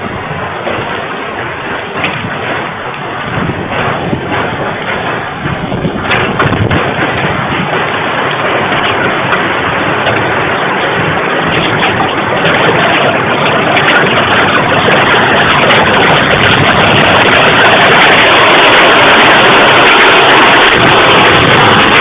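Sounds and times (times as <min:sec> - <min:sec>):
hail pelting down: 0:00.0 - 0:22.0.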